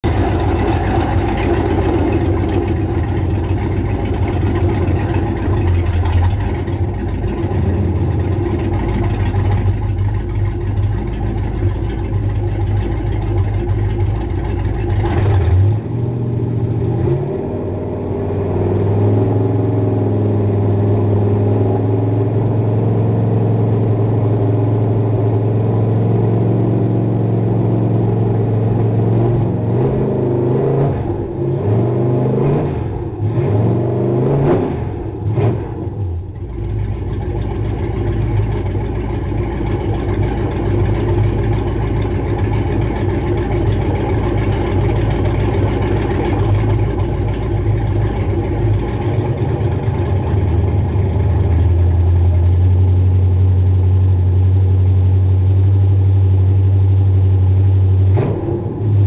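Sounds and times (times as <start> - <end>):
car engine running rough: 0.0 - 59.0.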